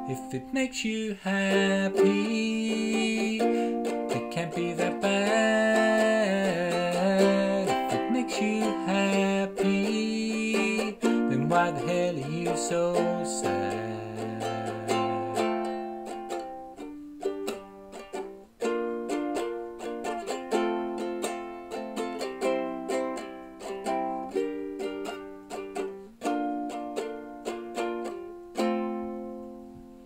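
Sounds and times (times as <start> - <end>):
ukulele strumming chords: 0.0 - 30.0.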